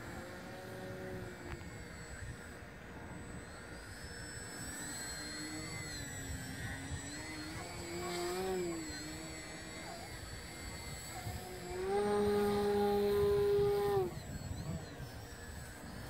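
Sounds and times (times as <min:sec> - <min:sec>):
model plane electric motor whine: 0:00.0 - 0:16.0.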